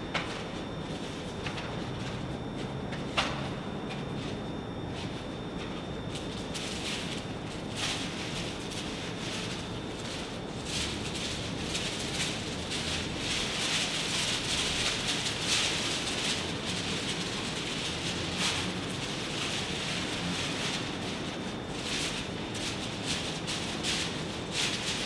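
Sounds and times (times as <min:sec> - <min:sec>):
paper and plastic rustling: 0:00.2 - 0:25.0.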